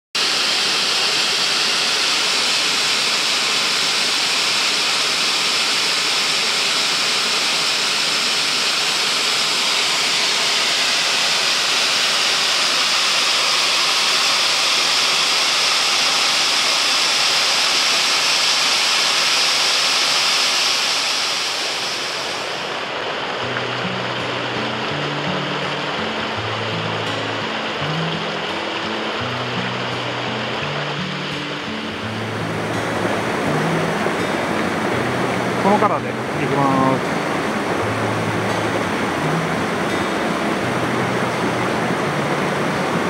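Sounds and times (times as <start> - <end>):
stream rushing over rocks: 0.2 - 43.0.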